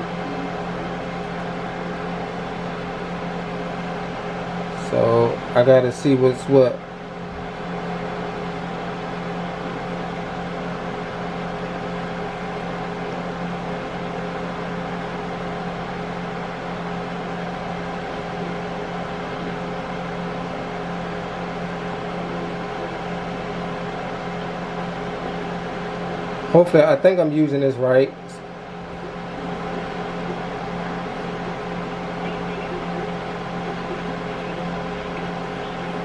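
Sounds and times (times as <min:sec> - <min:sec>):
constant low hum: 0:00.0 - 0:36.0.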